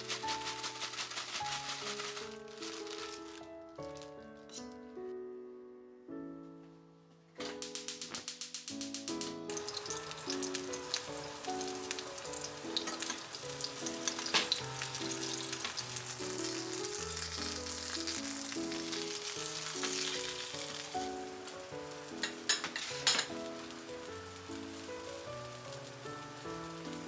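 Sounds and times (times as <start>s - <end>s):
fish sizzling in oil: 0.0s - 3.4s, 7.6s - 27.0s
soft background music: 0.0s - 27.0s.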